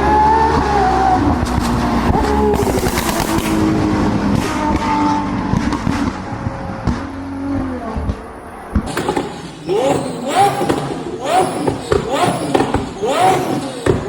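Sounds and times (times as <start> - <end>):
car engine revving hard: 0.0 - 14.0
exhaust crackles: 0.0 - 14.0.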